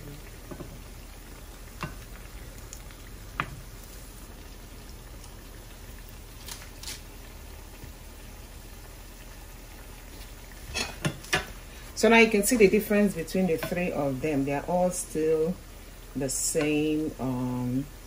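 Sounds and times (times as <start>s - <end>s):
fries sizzling in frying oil: 0.0s - 18.0s.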